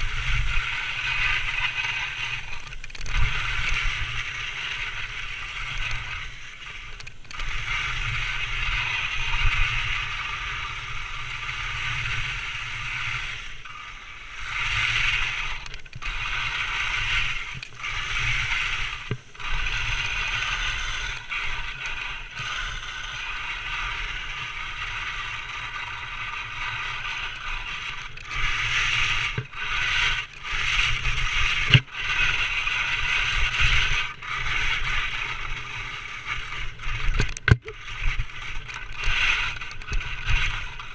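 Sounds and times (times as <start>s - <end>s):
skis scraping over snow: 0.0s - 40.9s
wind rumble on microphone: 0.0s - 40.9s.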